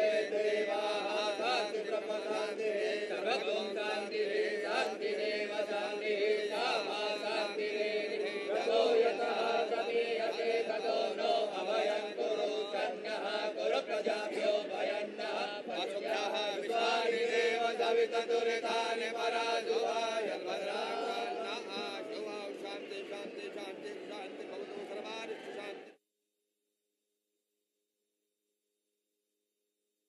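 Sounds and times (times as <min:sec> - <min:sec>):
priests chanting mantras: 0:00.0 - 0:26.0.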